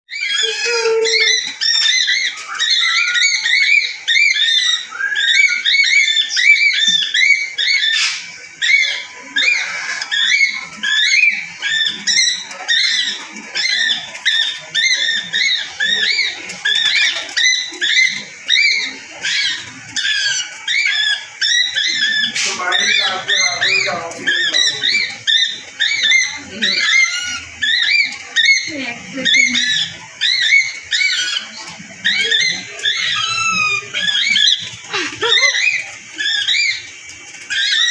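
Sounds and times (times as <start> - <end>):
parrots chirping and chattering: 0.1 - 37.9.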